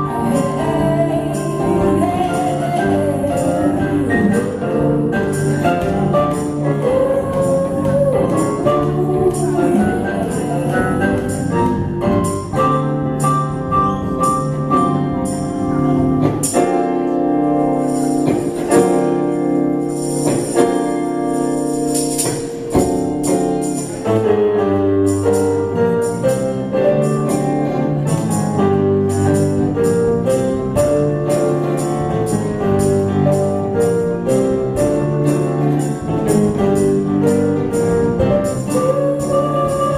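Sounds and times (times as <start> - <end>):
acoustic band playing rock song: 0.0 - 39.9.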